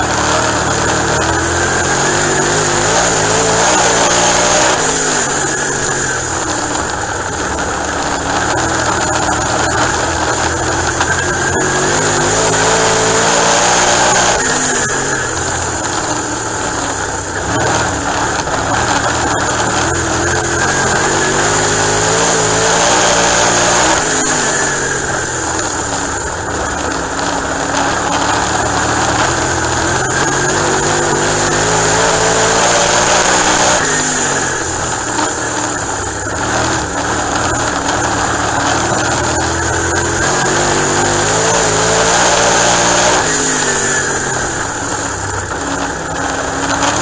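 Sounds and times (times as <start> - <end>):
race car engine: 0.0 - 47.0.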